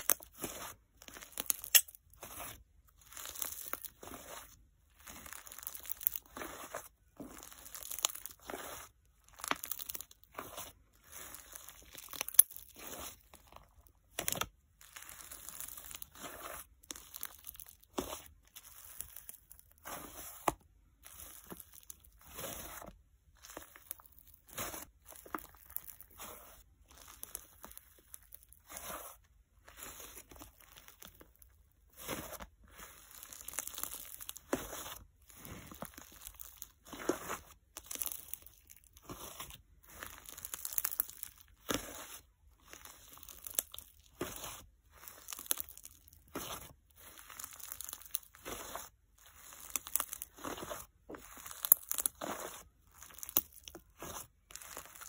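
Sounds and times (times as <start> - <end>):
slime squishy crackles: 0.0 - 55.0.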